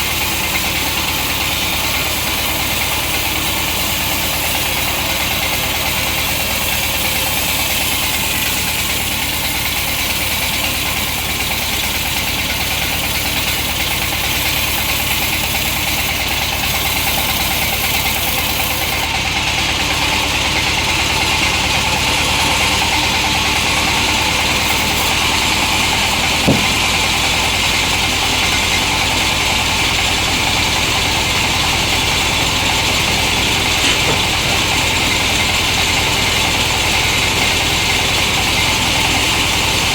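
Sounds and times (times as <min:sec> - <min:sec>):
two-stroke chainsaw running: 0:00.0 - 0:39.9.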